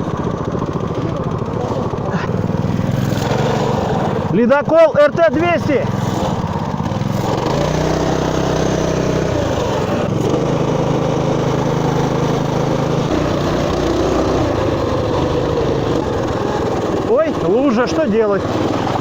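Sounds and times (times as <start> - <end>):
small motorbike engine revving: 0.0 - 19.0.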